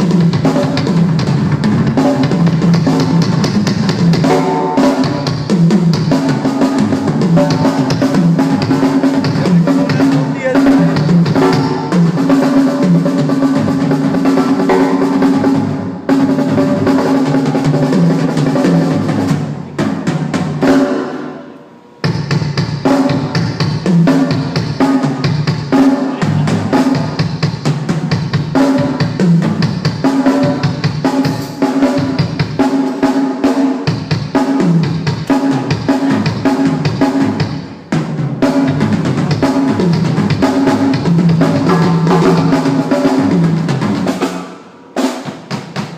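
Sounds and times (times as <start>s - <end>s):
drum kit playing: 0.0s - 45.9s.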